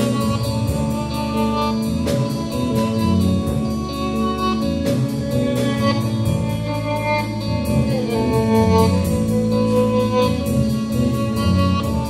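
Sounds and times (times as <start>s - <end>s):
bass guitar: 0.0s - 12.0s
drum kit with cymbal strokes: 0.0s - 12.0s
electric guitar sustained notes: 0.0s - 12.0s.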